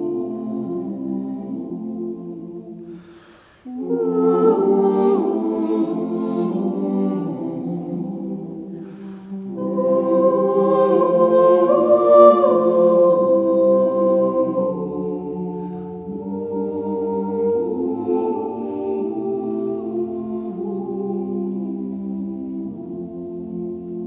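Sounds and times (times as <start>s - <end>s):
choir singing slow held chords: 0.0s - 24.0s.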